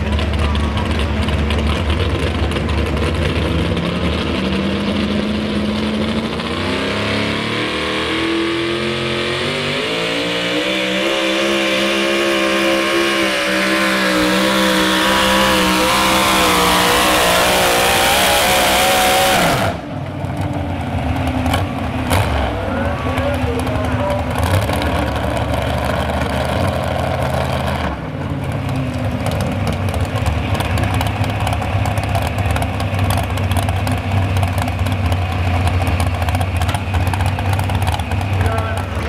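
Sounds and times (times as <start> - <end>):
truck engine at full throttle: 0.0 - 39.0.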